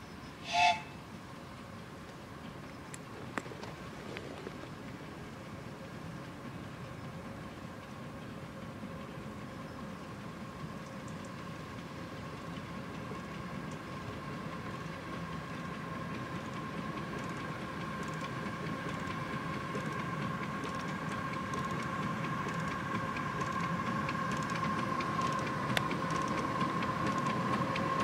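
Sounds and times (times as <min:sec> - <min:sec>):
high whine of train: 0:00.0 - 0:28.0
miniature train rumbling on track: 0:00.0 - 0:28.0.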